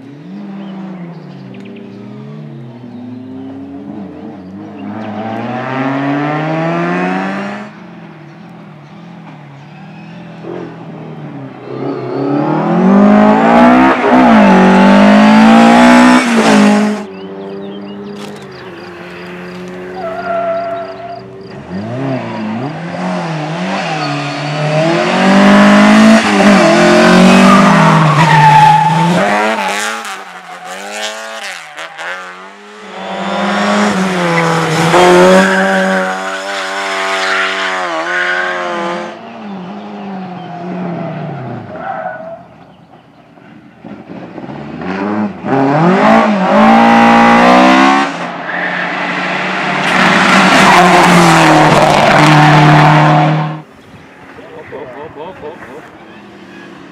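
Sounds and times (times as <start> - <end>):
rally car engine revving: 0.0 - 7.7, 10.0 - 42.3, 43.8 - 53.7.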